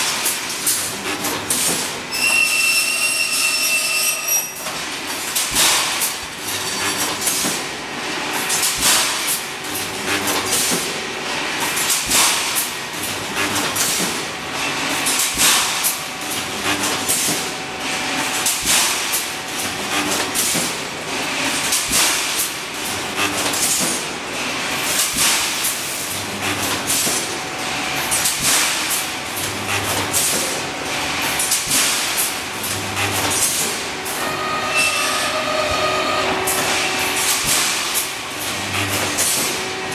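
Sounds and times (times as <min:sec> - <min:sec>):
welding machine sharp clanks: 0:00.0 - 0:07.8, 0:08.4 - 0:39.9.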